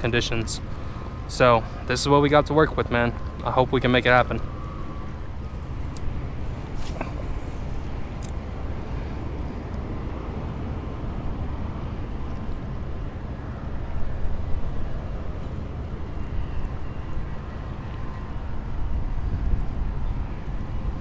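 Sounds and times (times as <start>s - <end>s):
faint engine hum: 0.0s - 21.0s
wind rumbling on microphone: 0.0s - 21.0s.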